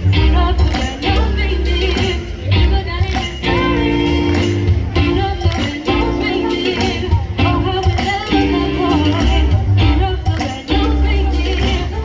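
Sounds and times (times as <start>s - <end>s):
band with heavy bass and percussion: 0.0s - 12.0s
woman singing: 0.0s - 12.0s.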